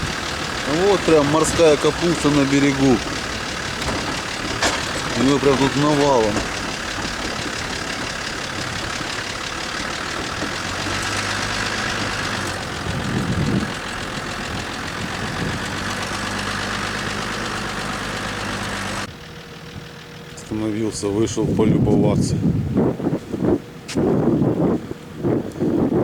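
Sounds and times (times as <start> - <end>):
road noise: 0.0 - 26.0
vehicle engine: 0.0 - 26.0.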